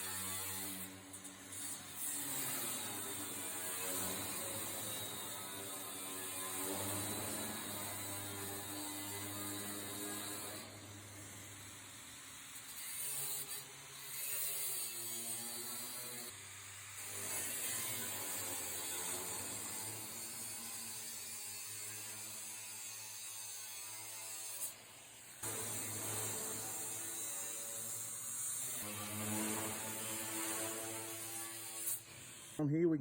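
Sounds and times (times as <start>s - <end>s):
angle grinder cutting sheet steel: 0.0s - 32.6s.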